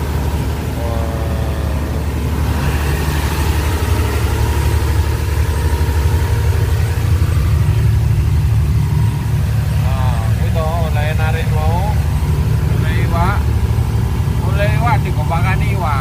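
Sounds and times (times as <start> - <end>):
boat diesel engine humming: 0.0 - 16.0
water rushing along hull: 0.0 - 16.0.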